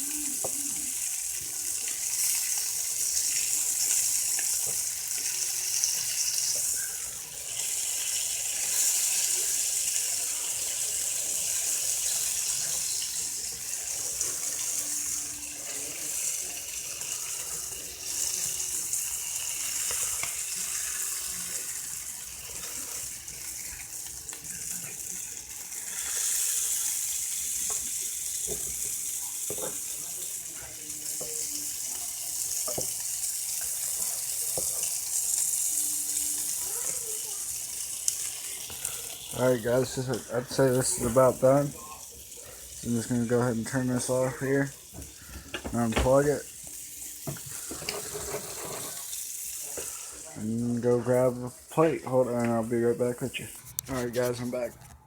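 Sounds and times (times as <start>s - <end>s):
fish frying in butter: 0.0s - 54.7s.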